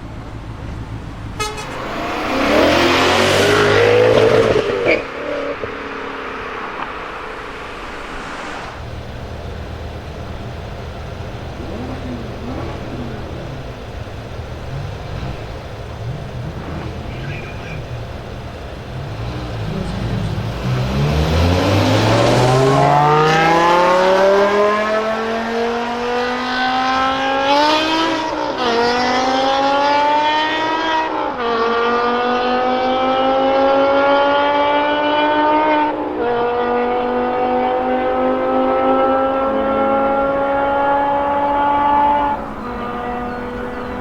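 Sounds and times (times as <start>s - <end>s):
car engine accelerating through gears: 0.0s - 44.0s.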